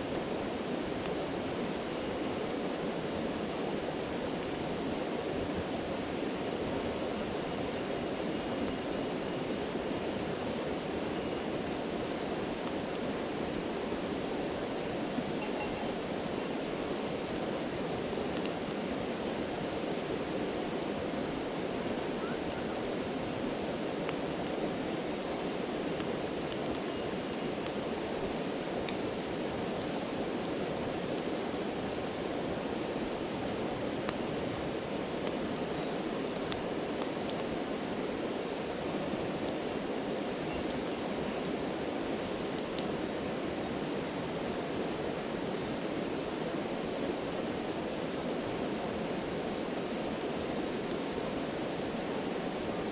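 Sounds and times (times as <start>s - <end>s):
stream rushing: 0.0s - 52.9s
campfire crackling and popping: 0.1s - 43.3s, 46.1s - 52.9s.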